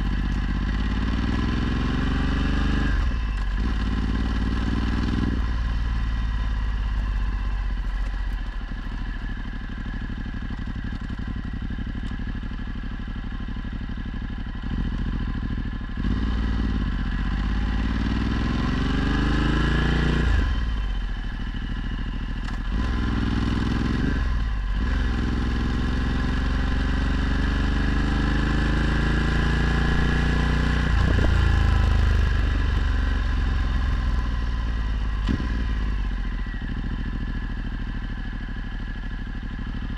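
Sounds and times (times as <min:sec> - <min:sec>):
motorcycle engine revving: 0:00.0 - 0:12.3, 0:14.4 - 0:39.9.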